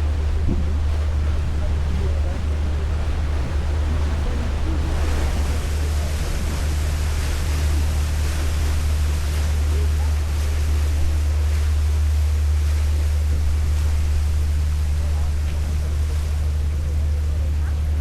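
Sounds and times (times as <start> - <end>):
boat engine rumbling: 0.0 - 18.0
faint distant voices: 0.0 - 18.0
water wash: 0.0 - 18.0.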